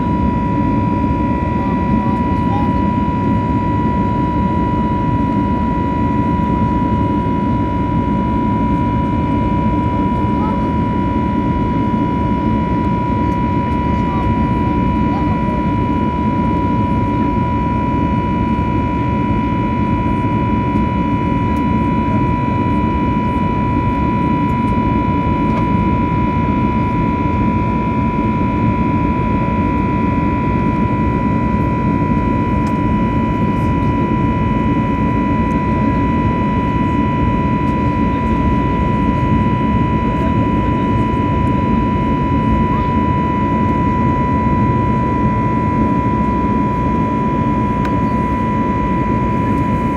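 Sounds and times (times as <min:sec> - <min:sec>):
jet engines heard inside cabin: 0:00.0 - 0:49.9.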